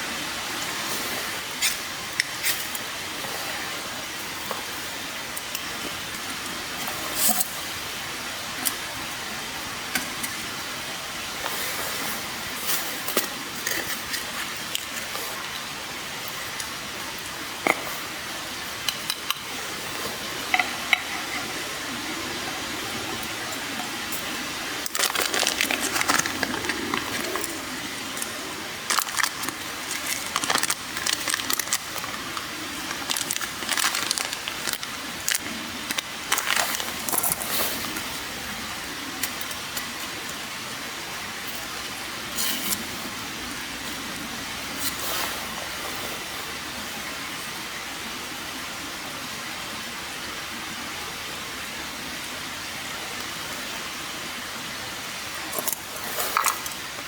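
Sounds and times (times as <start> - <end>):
campfire hissing and crackling: 0.0 - 48.8, 50.2 - 57.0.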